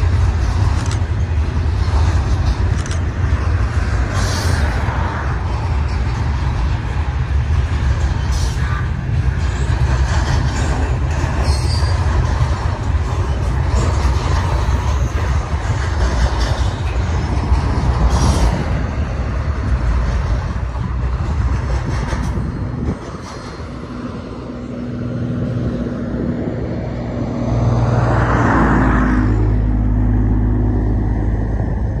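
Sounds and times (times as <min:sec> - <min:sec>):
freight train rolling past: 0:00.0 - 0:32.0.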